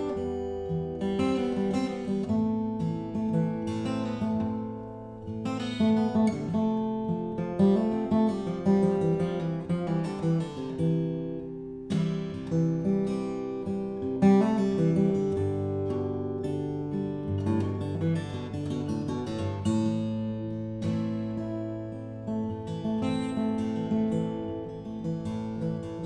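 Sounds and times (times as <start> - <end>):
acoustic guitar: 0.0 - 26.0.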